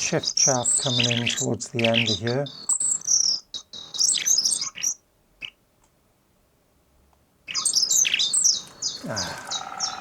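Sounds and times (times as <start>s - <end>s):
birds chirping: 0.0s - 5.6s, 7.4s - 10.0s.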